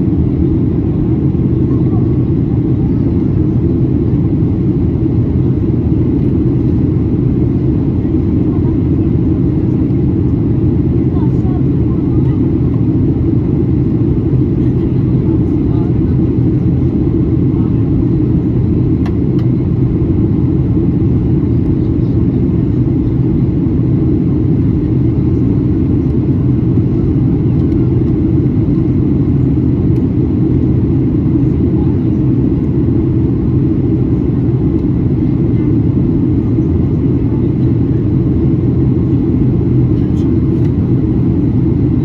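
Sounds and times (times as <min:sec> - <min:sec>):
airplane cabin rumble: 0:00.0 - 0:42.0.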